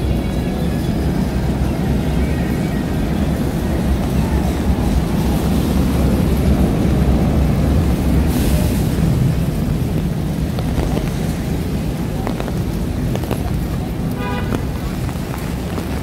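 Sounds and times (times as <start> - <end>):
wet city street ambience: 0.0 - 16.0
wind rumble on microphone: 0.0 - 16.0.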